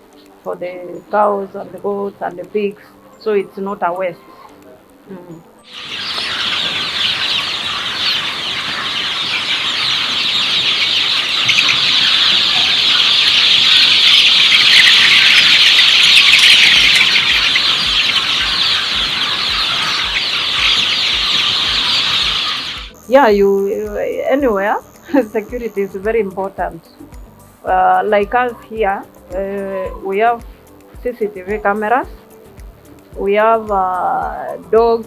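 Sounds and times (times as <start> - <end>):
chickens clucking and chirping: 0.2 - 35.0.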